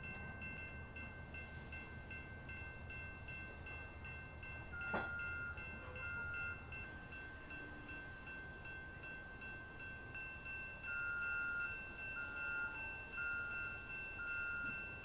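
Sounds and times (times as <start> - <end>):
electronic crossing bell ringing: 0.0 - 15.0.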